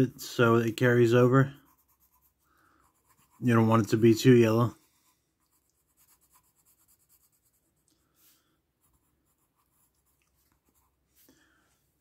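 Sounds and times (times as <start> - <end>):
pencil scratching on paper: 0.0 - 11.3.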